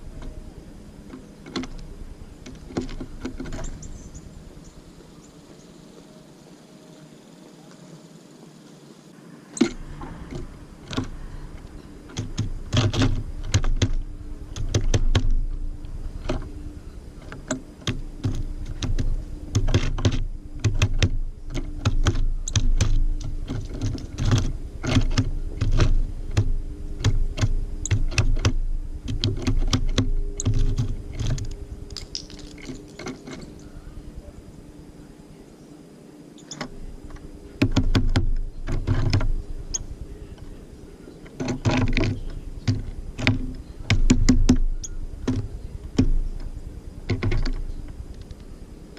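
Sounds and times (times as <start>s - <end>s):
birds pecking on feeder: 0.0s - 6.1s, 9.5s - 35.1s, 36.4s - 48.9s.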